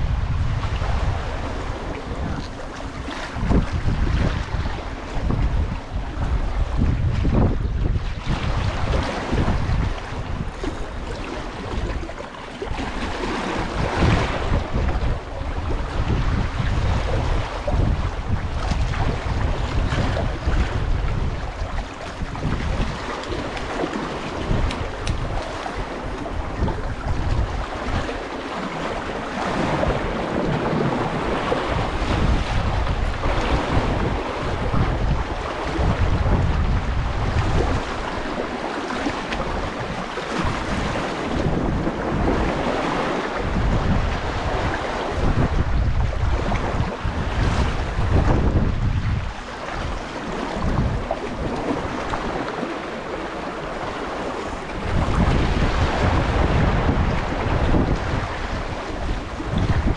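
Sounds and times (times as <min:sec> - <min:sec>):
waves splashing against concrete: 0:00.0 - 0:59.9
wind rumbling on microphone: 0:00.0 - 0:59.9.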